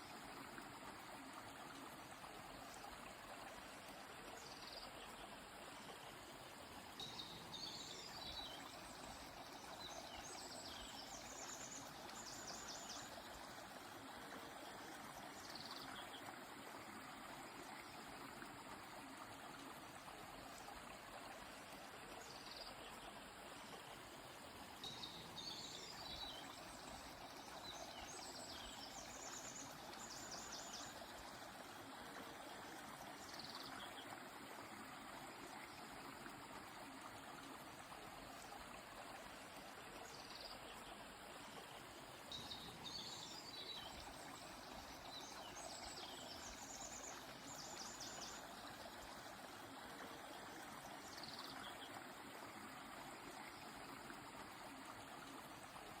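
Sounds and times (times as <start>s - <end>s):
stream flowing: 0.0s - 56.0s.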